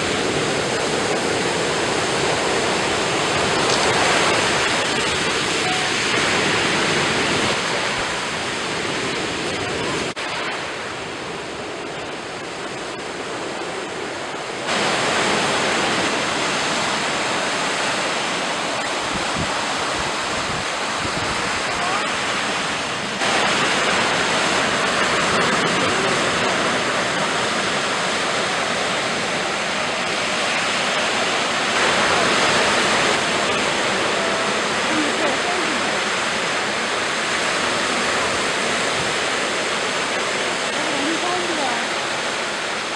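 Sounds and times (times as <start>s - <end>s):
sea waves breaking on shore: 0.0s - 42.9s.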